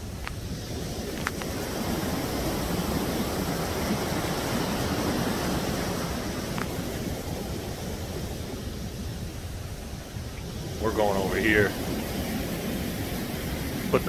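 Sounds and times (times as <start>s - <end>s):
white water rushing: 0.0s - 14.0s.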